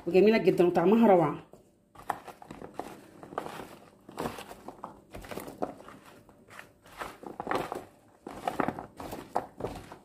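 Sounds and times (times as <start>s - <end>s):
vegetables tossed by hand in tray: 2.0s - 10.0s.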